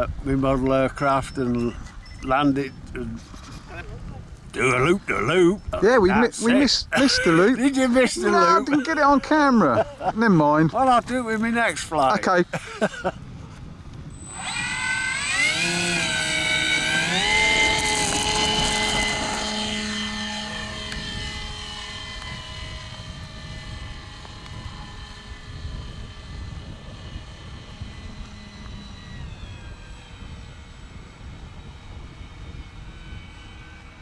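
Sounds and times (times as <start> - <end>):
model aeroplane motor whining drone: 0.0 - 34.0.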